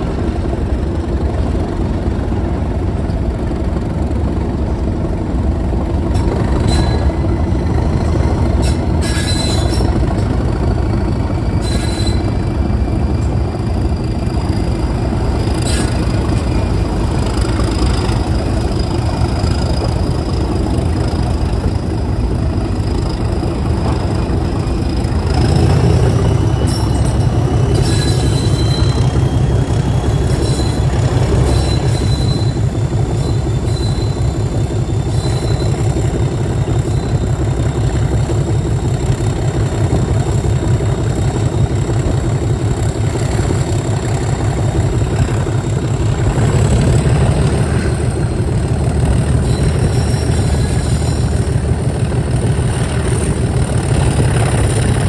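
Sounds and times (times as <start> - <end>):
diesel locomotive engine throb: 0.0 - 55.0
train wheels rumbling on track: 0.0 - 55.0
faint wheel squeal: 6.2 - 55.0.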